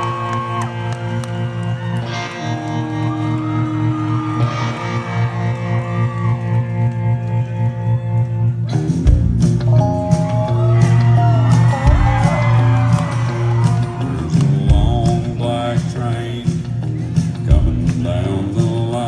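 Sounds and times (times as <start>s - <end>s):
guitar riff: 0.0s - 19.0s
live country band playing: 0.0s - 19.0s.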